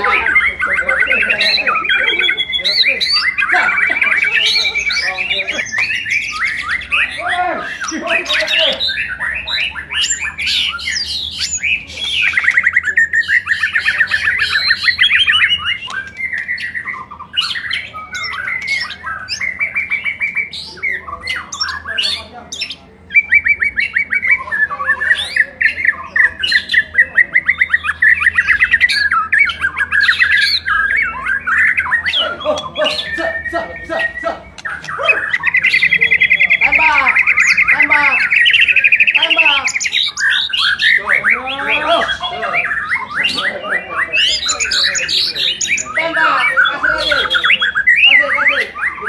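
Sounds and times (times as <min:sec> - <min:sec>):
songbird singing loudly: 0:00.0 - 0:49.0.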